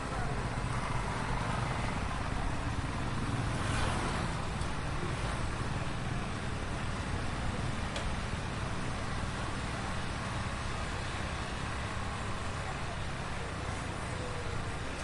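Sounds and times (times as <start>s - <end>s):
heavy street traffic rumble: 0.0s - 15.0s.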